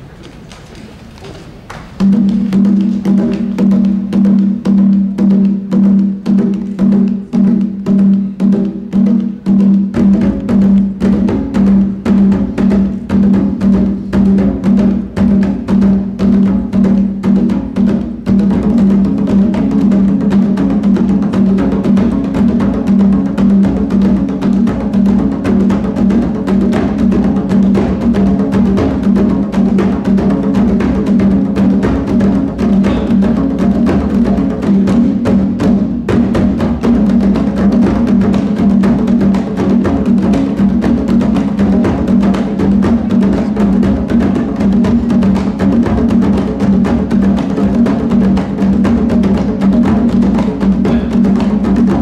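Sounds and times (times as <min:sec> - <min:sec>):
congas and djembes drumming: 0:01.4 - 0:52.0
deep drums: 0:01.6 - 0:52.0
drum kit playing a groove: 0:01.9 - 0:52.0.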